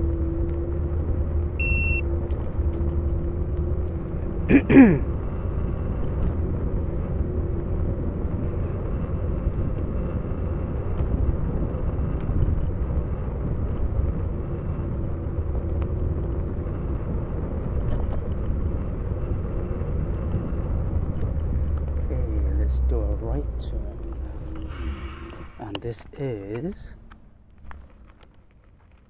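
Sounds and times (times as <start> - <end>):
tyres rolling on road: 0.0 - 29.0
wind buffeting microphone: 5.1 - 28.7.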